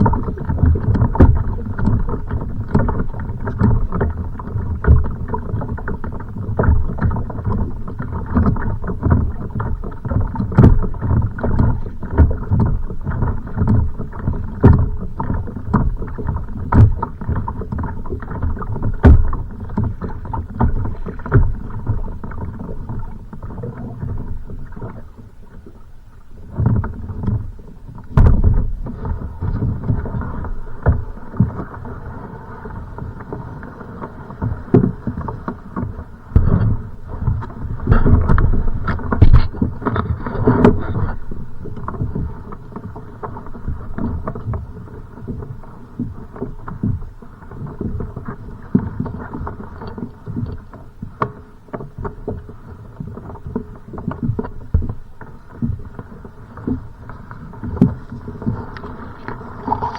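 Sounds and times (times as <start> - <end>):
rumbling wash of water: 0.0 - 50.6, 54.2 - 59.9
waves slapping against a kayak hull: 0.0 - 59.9.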